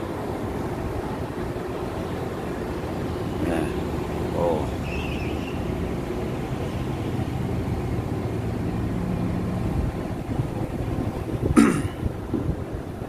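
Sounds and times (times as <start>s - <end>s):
ship machinery droning: 0.0s - 13.0s.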